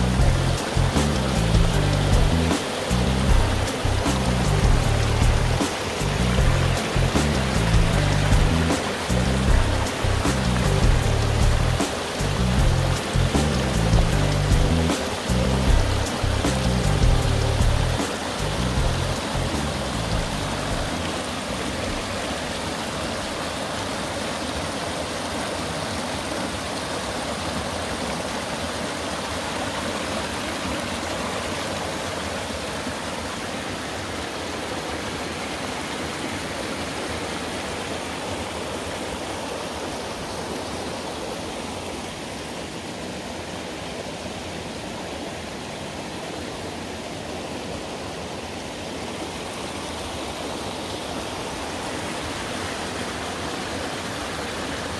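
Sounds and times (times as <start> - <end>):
stream flowing: 0.0 - 54.9.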